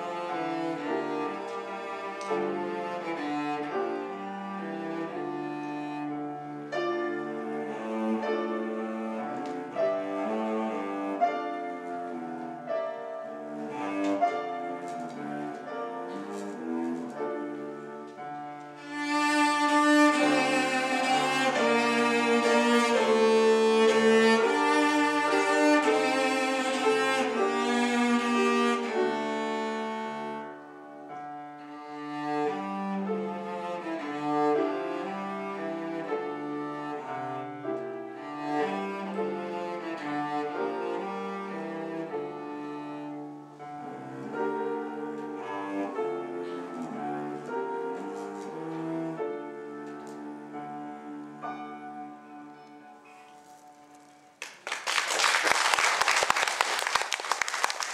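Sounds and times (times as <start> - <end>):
bowed cello melody: 0.0 - 54.5.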